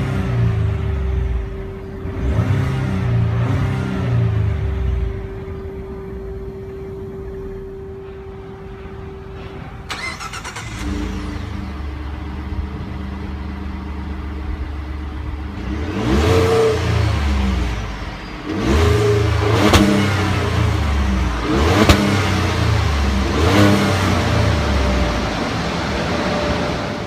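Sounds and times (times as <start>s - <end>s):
truck engine idling and revving: 0.0s - 27.0s.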